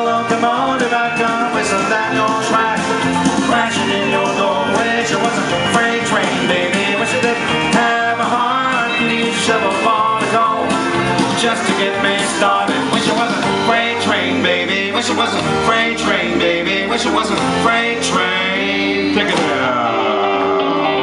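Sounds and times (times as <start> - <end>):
electric guitar: 0.0 - 21.0
up-tempo country music: 0.0 - 21.0.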